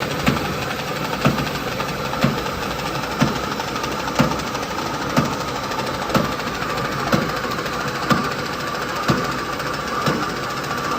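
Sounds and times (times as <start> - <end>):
machine knocking: 0.0 - 10.9.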